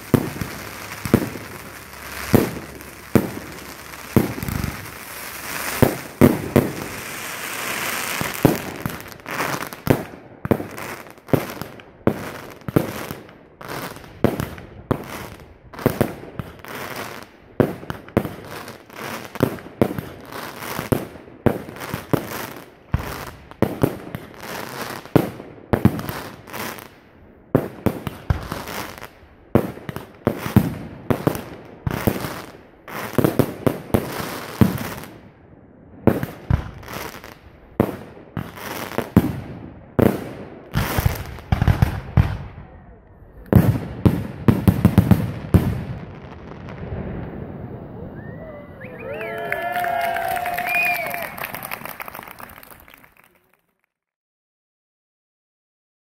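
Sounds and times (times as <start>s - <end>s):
fireworks bursting: 0.0s - 35.4s, 36.0s - 42.6s, 43.4s - 53.3s.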